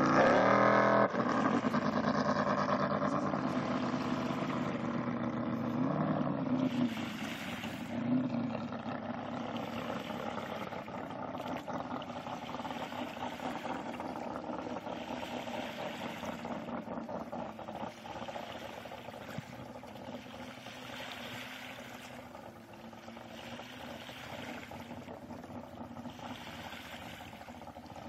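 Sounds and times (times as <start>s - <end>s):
small waves lapping and splashing: 0.0s - 28.0s.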